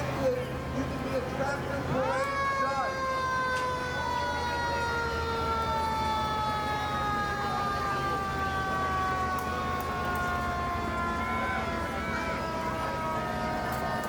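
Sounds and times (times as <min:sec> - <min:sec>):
engine hum: 0:00.0 - 0:14.0
siren wailing: 0:02.0 - 0:14.0.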